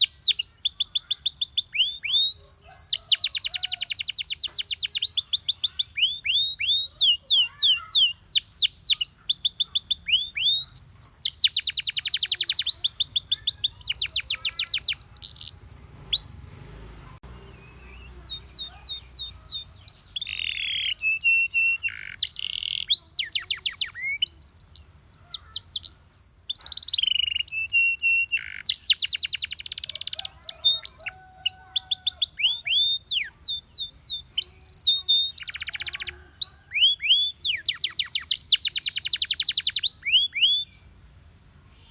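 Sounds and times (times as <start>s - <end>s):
canary singing trills: 0.0s - 16.6s, 17.2s - 41.9s.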